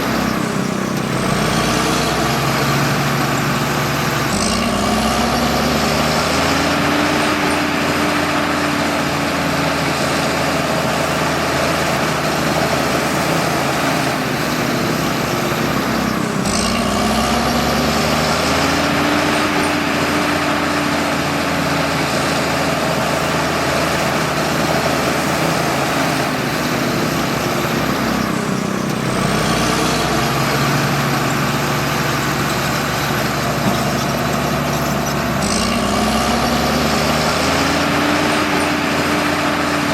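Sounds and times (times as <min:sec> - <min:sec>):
bulldozer diesel engine: 0:00.0 - 0:39.9
track clatter: 0:00.0 - 0:39.9.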